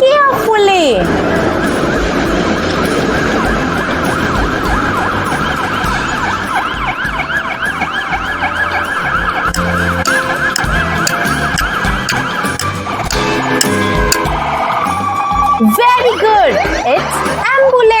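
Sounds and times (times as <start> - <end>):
ambulance siren wailing: 1.0 - 17.4.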